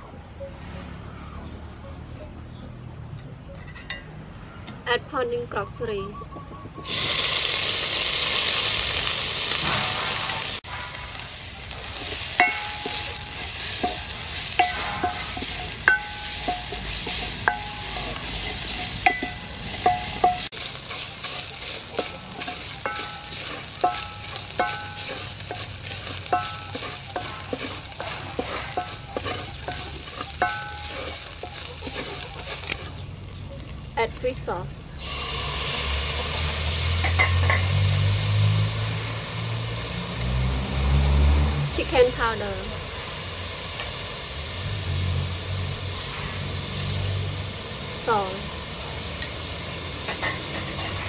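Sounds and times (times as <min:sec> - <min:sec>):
spice paste sizzling in oil: 0:06.8 - 0:51.0.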